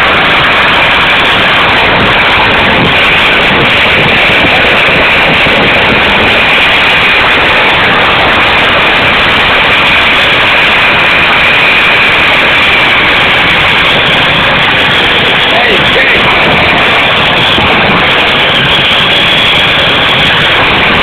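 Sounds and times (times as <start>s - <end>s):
high turbine whine: 0.0s - 21.0s
jet engine roaring: 0.0s - 21.0s.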